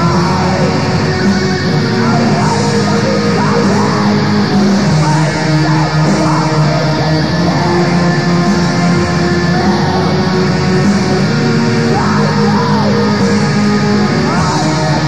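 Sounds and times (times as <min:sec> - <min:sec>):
black metal music: 0:00.0 - 0:15.0.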